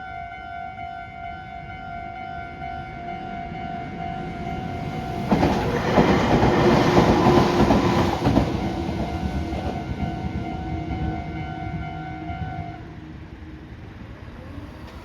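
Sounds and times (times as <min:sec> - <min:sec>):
crossing warning bell: 0:00.0 - 0:13.2
train wheel and rail noise: 0:00.0 - 0:15.0.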